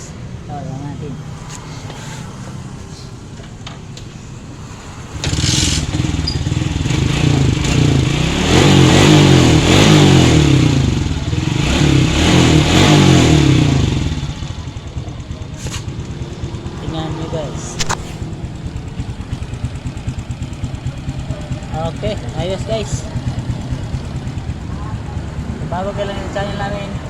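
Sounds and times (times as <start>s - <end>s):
motorcycle engine revving: 1.2s - 27.0s.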